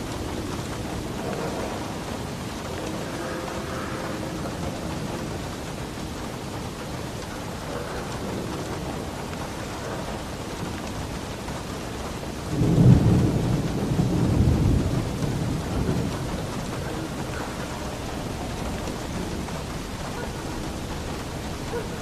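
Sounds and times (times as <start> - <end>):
heavy rain on a roof: 0.0 - 22.0
rolling thunder rumble: 0.0 - 22.0.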